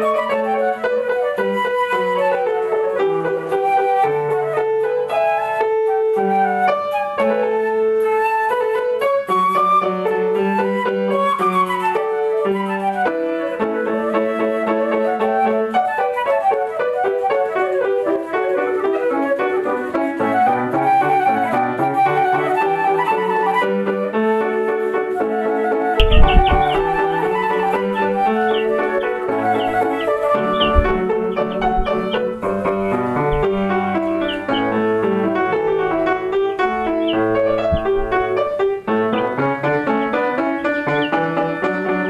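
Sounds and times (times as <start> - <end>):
flute melody: 0.0 - 42.0
piano accompaniment: 0.0 - 42.0.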